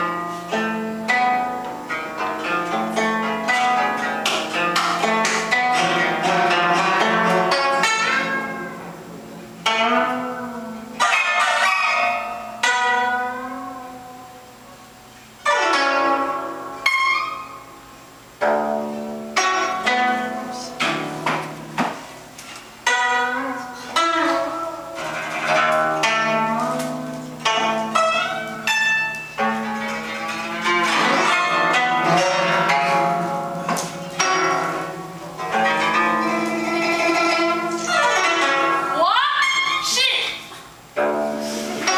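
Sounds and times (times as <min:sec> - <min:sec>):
plucked zither notes: 0:00.0 - 0:41.9.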